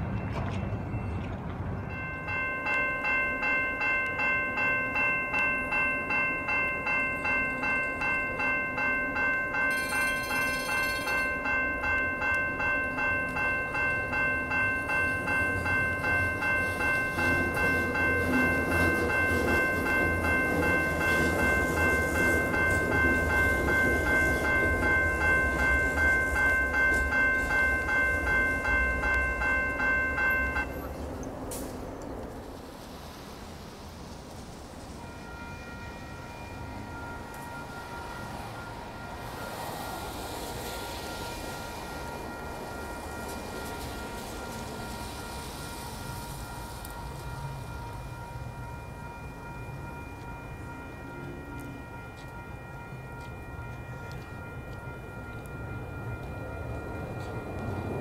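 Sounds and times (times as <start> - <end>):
crossing warning bell ringing: 0.0 - 31.7, 34.8 - 58.0.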